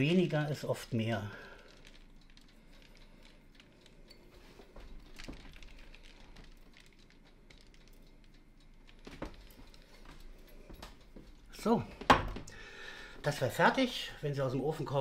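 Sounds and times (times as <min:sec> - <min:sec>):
seeds pattering onto pastry: 0:00.0 - 0:15.0.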